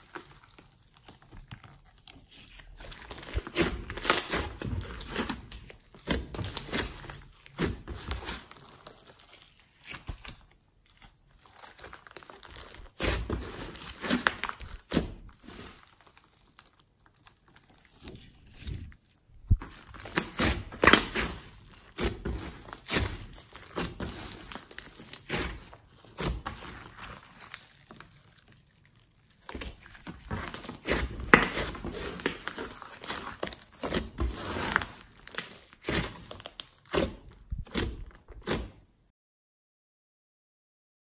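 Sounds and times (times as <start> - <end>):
slime popping and crackling: 0.0 - 18.7, 19.4 - 38.7.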